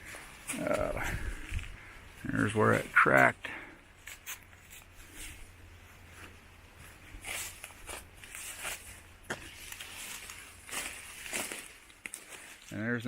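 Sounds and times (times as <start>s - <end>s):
footsteps on woodland trail: 0.0s - 13.0s.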